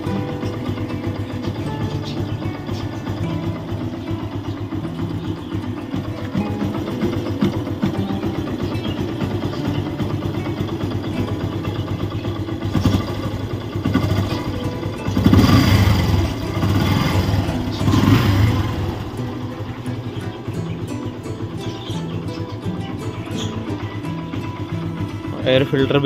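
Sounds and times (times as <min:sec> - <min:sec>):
motorcycle engine idling: 0:00.0 - 0:26.0
throttle blips: 0:00.0 - 0:26.0.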